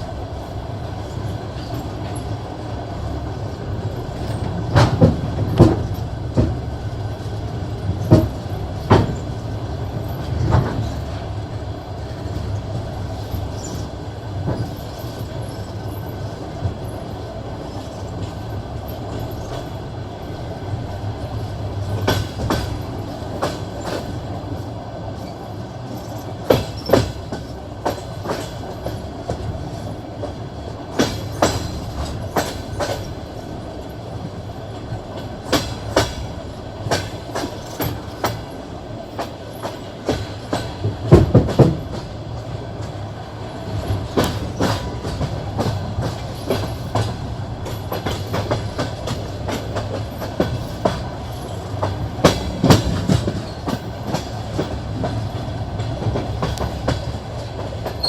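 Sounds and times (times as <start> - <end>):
train rumble: 0.0 - 58.0
train wheels clicking over rail joints: 0.0 - 58.0.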